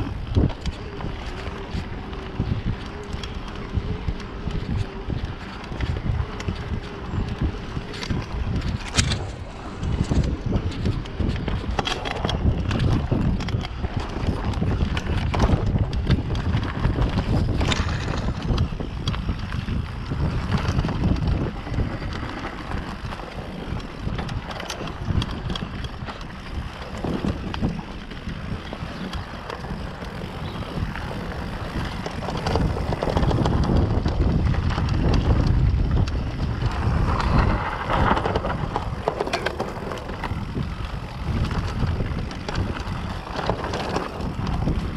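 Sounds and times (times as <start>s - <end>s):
bike rattling and knocking: 0.0s - 44.9s
tyres rolling on dirt trail: 0.0s - 44.9s
wind buffeting microphone: 0.0s - 44.9s.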